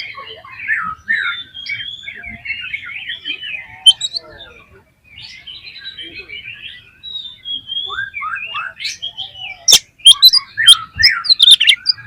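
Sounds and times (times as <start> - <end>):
bird singing warbles and whistles: 0.0 - 12.0.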